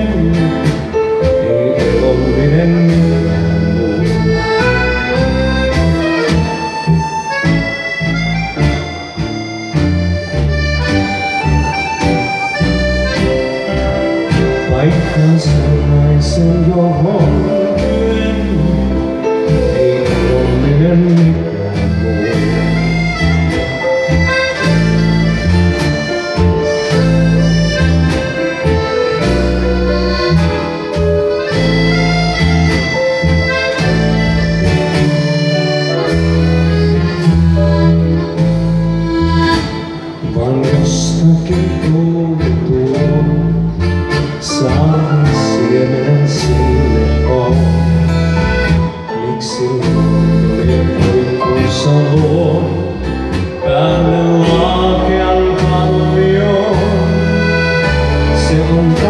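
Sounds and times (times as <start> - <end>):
accordion melody: 0.0 - 59.0
acoustic guitar strumming: 0.0 - 59.0.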